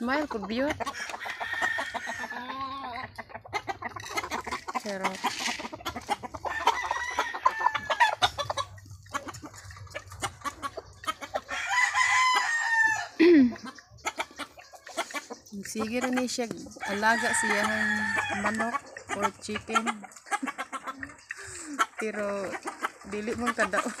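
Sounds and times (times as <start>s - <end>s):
roosters crowing and clucking: 0.0s - 24.0s.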